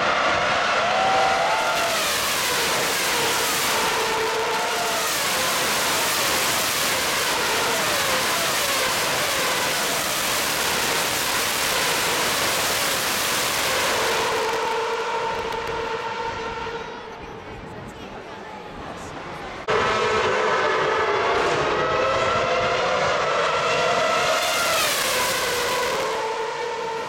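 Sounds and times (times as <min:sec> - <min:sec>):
racing cars passing at high revs: 0:00.0 - 0:17.1, 0:19.5 - 0:27.0.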